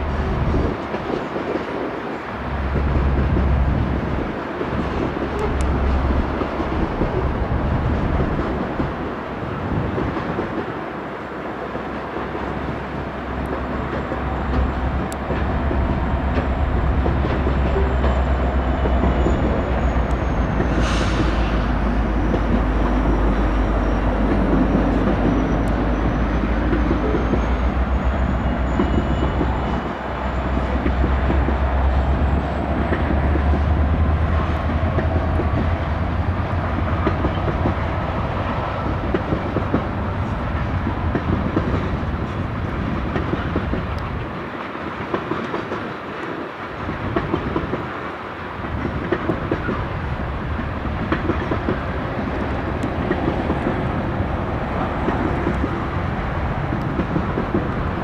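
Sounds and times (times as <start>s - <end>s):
train wheels clattering over rails: 0.0s - 58.0s
locomotive engine rumble: 2.3s - 10.5s, 12.0s - 44.4s, 48.7s - 58.0s.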